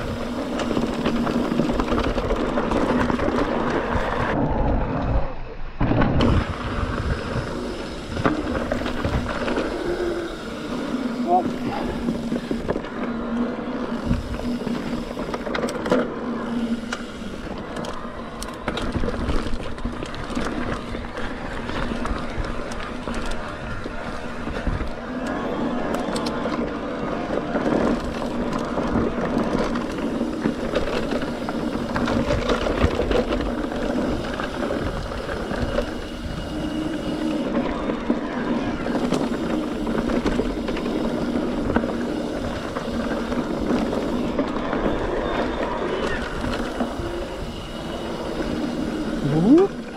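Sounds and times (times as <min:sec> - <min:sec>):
bike rattling and clicking: 0:00.0 - 0:49.9
bike tyres on dirt trail: 0:00.0 - 0:49.9.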